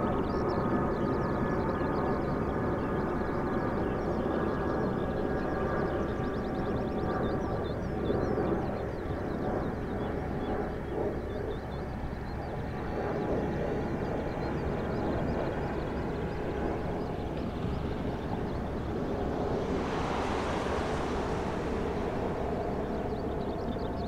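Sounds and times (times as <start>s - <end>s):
jet airliner passing overhead: 0.1s - 24.0s.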